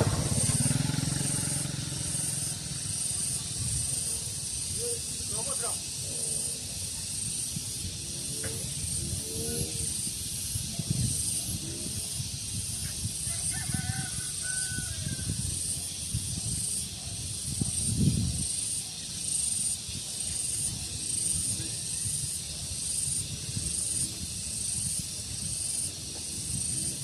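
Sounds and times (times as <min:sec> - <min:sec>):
wind rumbling on microphone: 0:00.0 - 0:06.0, 0:06.6 - 0:27.0
high pulsing hiss: 0:00.0 - 0:27.0.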